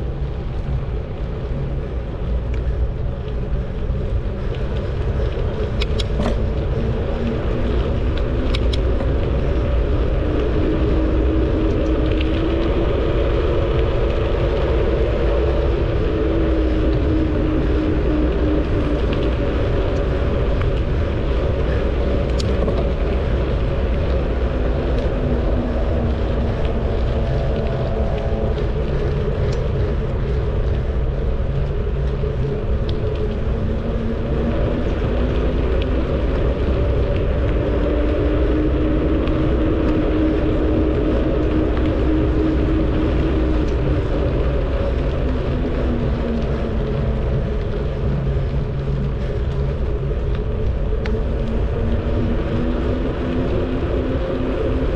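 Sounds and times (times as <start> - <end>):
bicycle tyre and road noise: 0.0 - 54.9
wind noise on microphone: 0.0 - 54.9.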